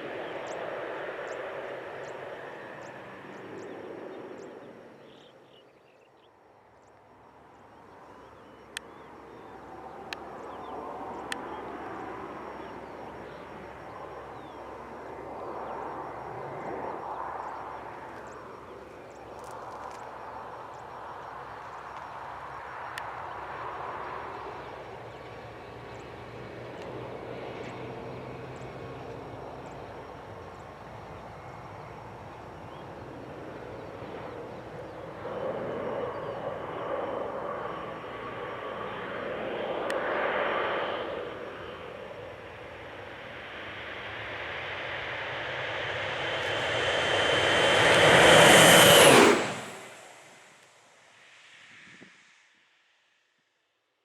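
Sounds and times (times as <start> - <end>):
high turbine whine: 0.0 - 5.5, 7.0 - 52.1
turboprop plane engine: 0.0 - 5.6, 6.6 - 52.2.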